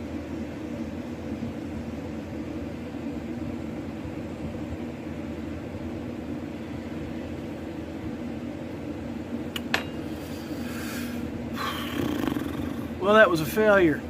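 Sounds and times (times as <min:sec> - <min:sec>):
electric machine humming: 0:00.0 - 0:14.0.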